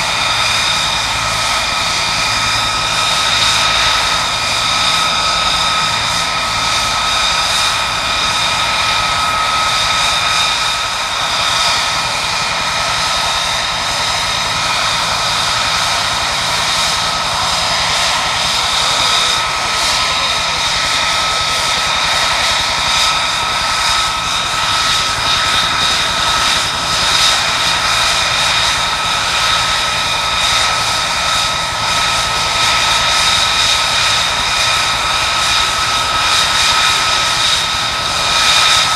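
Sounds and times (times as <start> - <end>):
jet engine idling with high whine: 0.0 - 38.9.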